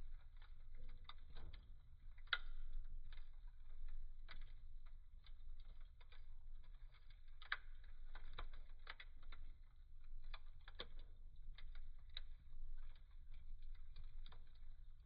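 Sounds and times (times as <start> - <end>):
low rumble of flames: 0.0 - 15.0
logs crackling and popping: 0.1 - 15.0.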